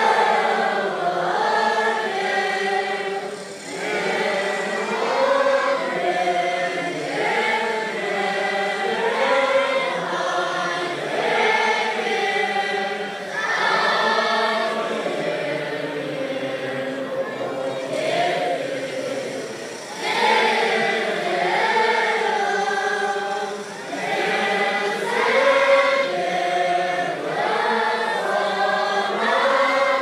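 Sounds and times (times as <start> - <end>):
crowd of monks singing: 0.0 - 30.0.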